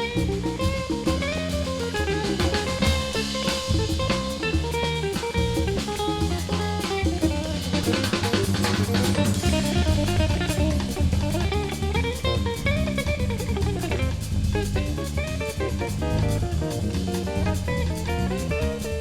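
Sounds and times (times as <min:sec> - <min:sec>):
bass: 0:00.0 - 0:19.0
drum kit: 0:00.0 - 0:19.0
guitar: 0:00.0 - 0:19.0
live band melody: 0:00.0 - 0:19.0
percussion: 0:00.0 - 0:19.0.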